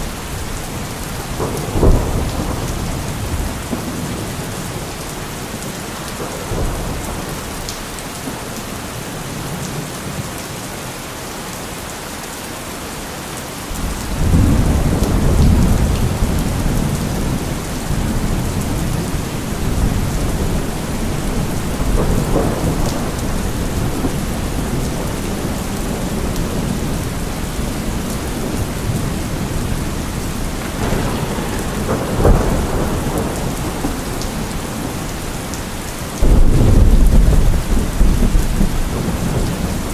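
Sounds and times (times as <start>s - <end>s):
low rolling thunder: 0.0s - 7.7s, 13.7s - 39.9s
heavy rain falling: 0.0s - 39.9s.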